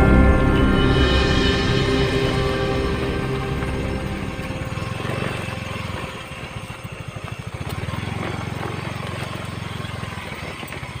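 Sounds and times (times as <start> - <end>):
engine running with low putter: 0.0 - 11.0.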